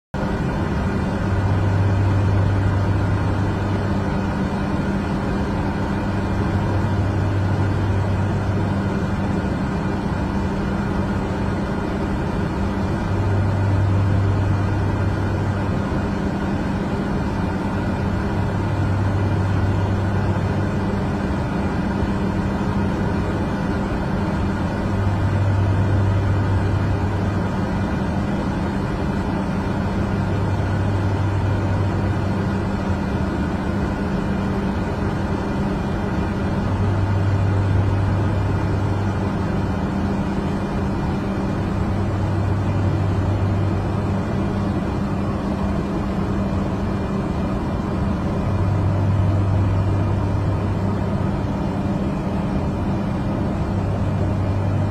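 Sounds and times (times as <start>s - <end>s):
aircraft engines droning: 0.2s - 54.9s
wavering low hum: 0.3s - 54.9s.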